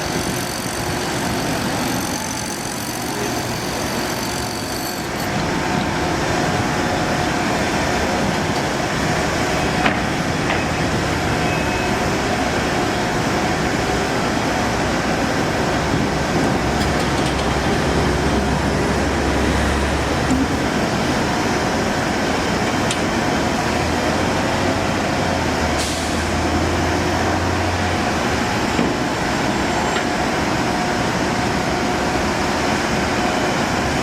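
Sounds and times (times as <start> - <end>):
engine and machinery noise: 0.0 - 34.0.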